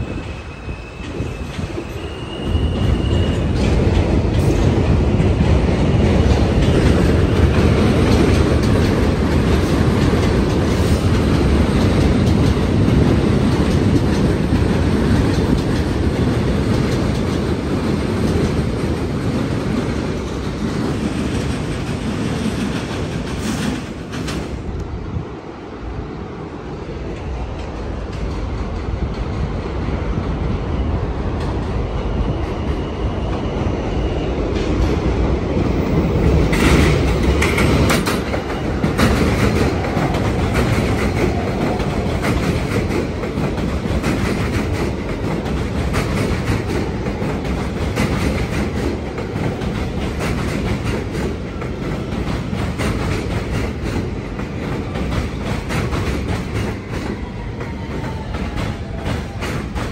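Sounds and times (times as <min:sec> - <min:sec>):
subway train wheels clattering: 0:00.0 - 0:59.9.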